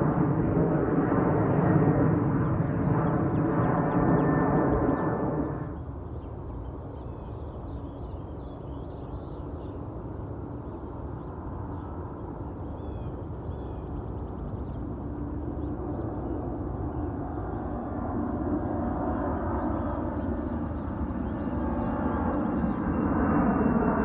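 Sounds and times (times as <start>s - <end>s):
jet engines low rumble: 0.0s - 24.0s.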